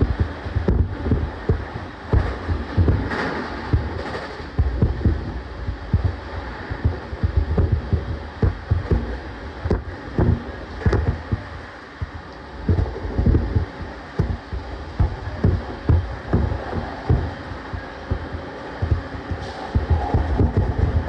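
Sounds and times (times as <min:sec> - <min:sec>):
low thumps from track: 0:00.0 - 0:21.0
train wheels rumbling on rail: 0:00.0 - 0:21.0.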